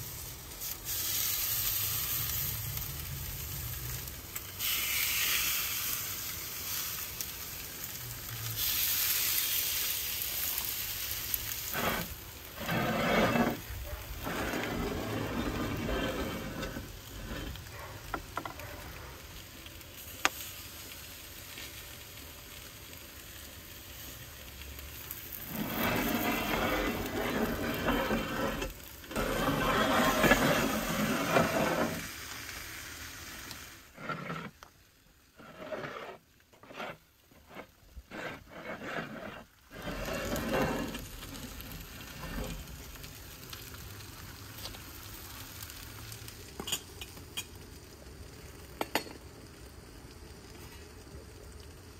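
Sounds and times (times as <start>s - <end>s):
fish sizzling on a griddle: 0.0s - 51.9s.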